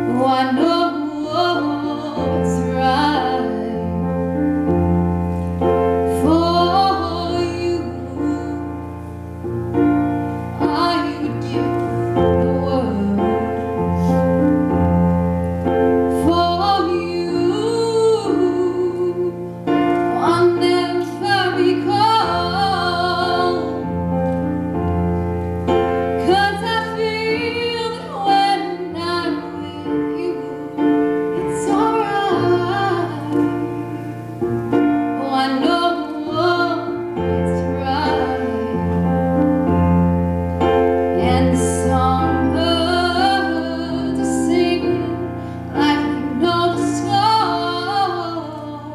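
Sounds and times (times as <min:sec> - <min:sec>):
woman singing slow song: 0:00.0 - 0:04.1, 0:06.0 - 0:09.1, 0:10.6 - 0:14.2, 0:16.1 - 0:24.2, 0:26.2 - 0:39.8, 0:41.2 - 0:48.9
piano chords: 0:00.0 - 0:48.9.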